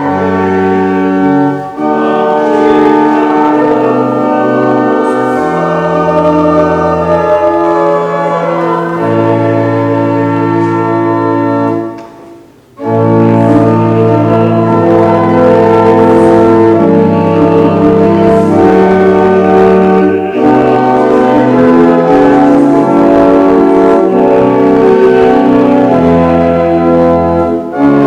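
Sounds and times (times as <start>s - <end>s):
church organ playing hymn chords: 0.0s - 28.0s.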